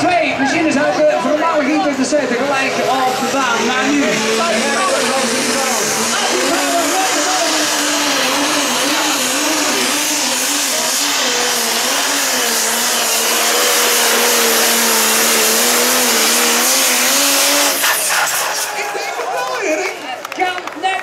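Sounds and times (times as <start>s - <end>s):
diesel engine running flat out: 0.0s - 19.4s.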